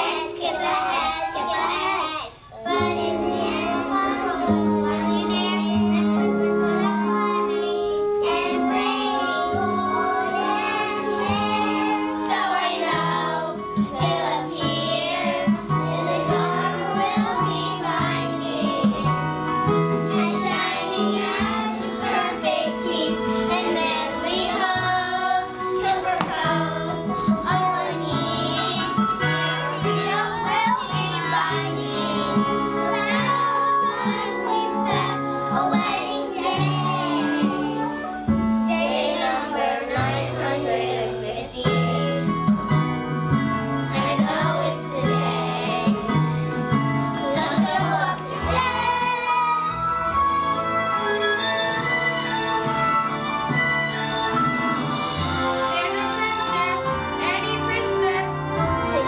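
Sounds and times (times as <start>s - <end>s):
children singing together: 0.0s - 42.5s, 43.9s - 59.0s
instrumental accompaniment: 0.0s - 59.0s.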